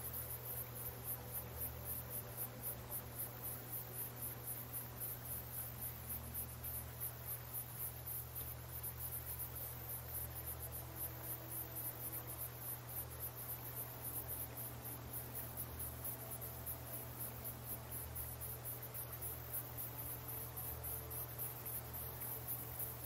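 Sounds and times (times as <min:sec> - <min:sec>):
crickets chirping: 0:00.0 - 0:23.0
low steady hum: 0:00.0 - 0:23.0.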